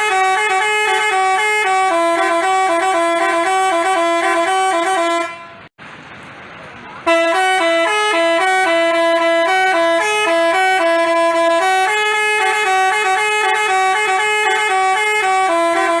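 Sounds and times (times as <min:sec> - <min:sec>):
bus horn playing a tune: 0:00.0 - 0:05.7, 0:07.0 - 0:16.0.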